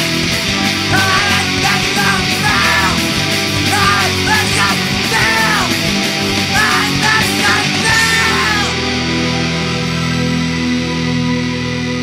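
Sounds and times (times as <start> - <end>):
distorted electric guitars: 0.0 - 12.0
drums: 0.0 - 12.0.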